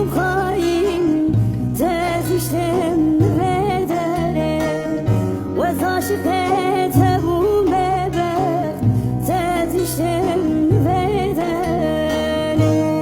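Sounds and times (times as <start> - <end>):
instrumental accompaniment: 0.0 - 13.0
person singing folk song: 0.0 - 13.0.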